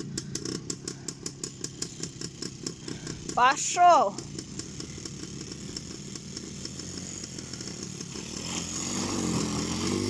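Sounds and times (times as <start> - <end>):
atv engine driving through snow: 0.0 - 10.0.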